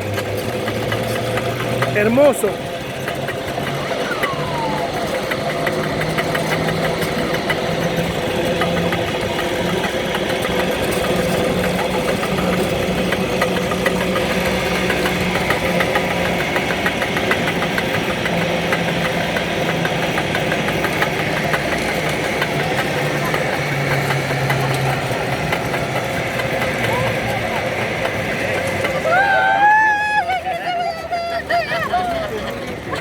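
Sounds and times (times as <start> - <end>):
cable car mechanical hum: 0.0 - 33.0
fast ticking rattle: 0.0 - 33.0.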